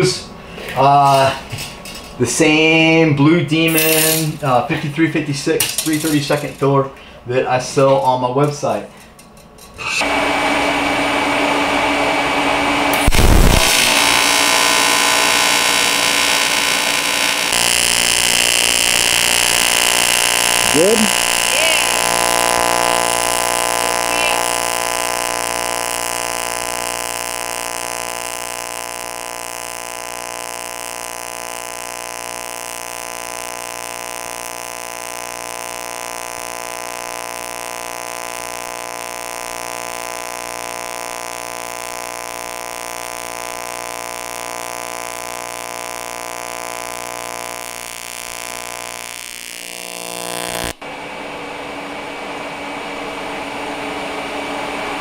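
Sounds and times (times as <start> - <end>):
welding arc buzzing: 0.0 - 2.7, 3.6 - 4.6, 9.8 - 50.8.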